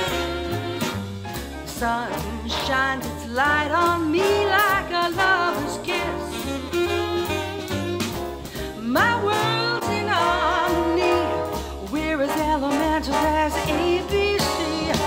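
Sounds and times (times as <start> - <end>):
song with beat and singer: 1.7 - 15.0.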